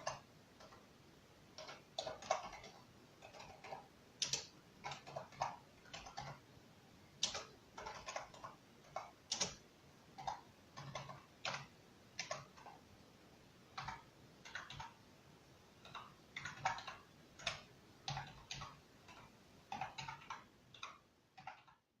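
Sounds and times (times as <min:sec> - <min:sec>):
computer keyboard typing: 0:00.0 - 0:00.9, 0:01.5 - 0:06.5, 0:07.2 - 0:12.9, 0:13.7 - 0:15.0, 0:15.7 - 0:21.9.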